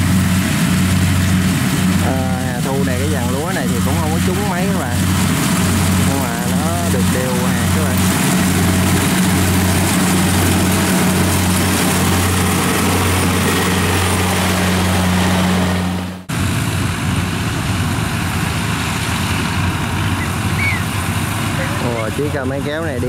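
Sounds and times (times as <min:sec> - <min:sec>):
combine harvester engine running: 0:00.0 - 0:23.0
rough tractor engine: 0:00.0 - 0:23.0.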